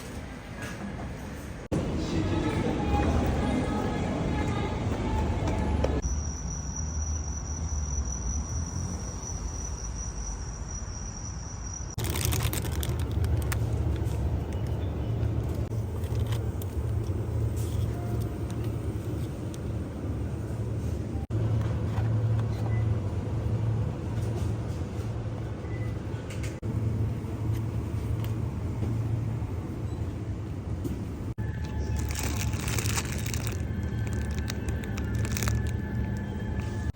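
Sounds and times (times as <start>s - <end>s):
vehicle rumble in motion: 1.6s - 36.9s.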